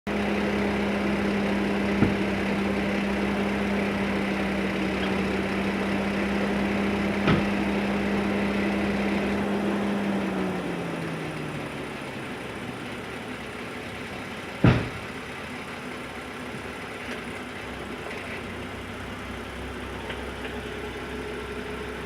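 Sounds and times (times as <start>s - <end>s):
car engine idling hum: 0.1s - 22.0s.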